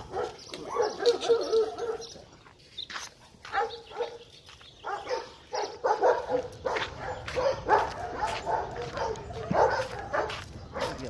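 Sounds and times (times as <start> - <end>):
dog barking: 0.0 - 2.1, 3.4 - 4.2, 4.8 - 11.0.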